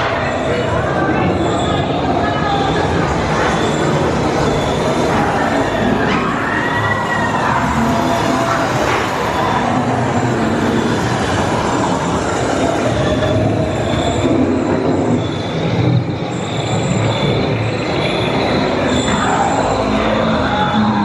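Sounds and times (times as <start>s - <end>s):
rumbling grinding horror soundtrack: 0.0s - 21.0s.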